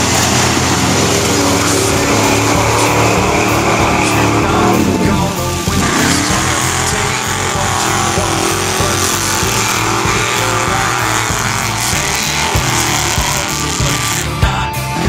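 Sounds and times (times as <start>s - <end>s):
truck engines running hard: 0.0s - 15.0s
tyres churning through mud: 0.0s - 15.0s.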